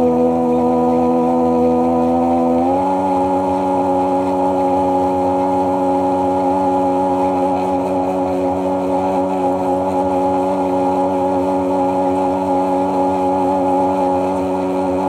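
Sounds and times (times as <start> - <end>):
personal watercraft engine running: 0.0 - 15.0.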